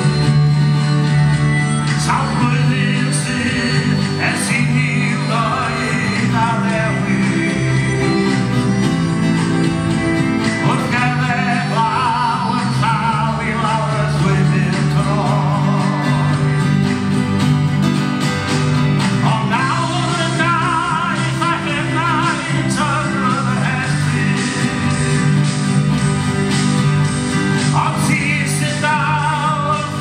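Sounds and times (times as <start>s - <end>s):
man singing with vibrato: 0.0s - 17.1s, 19.2s - 25.8s, 27.2s - 30.0s
acoustic guitar chords: 0.0s - 30.0s.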